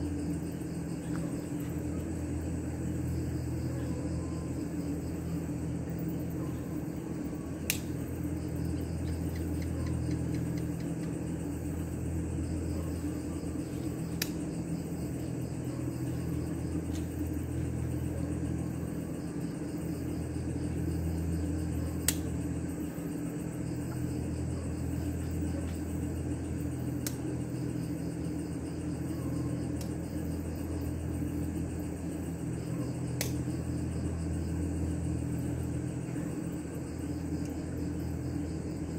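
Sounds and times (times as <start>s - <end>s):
crickets chirping: 0.0s - 38.9s
low mechanical hum: 0.0s - 38.9s.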